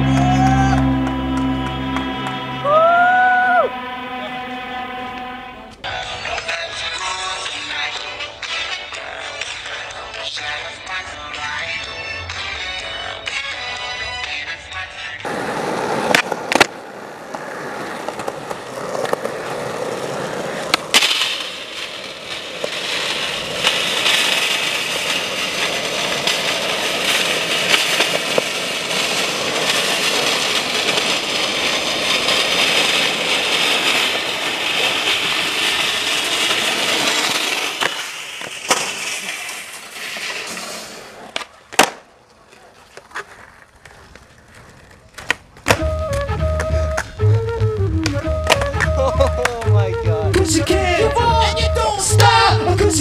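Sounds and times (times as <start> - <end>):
skateboard wheels rolling on asphalt: 0.0 - 53.0
skateboard clacks: 5.7 - 49.8.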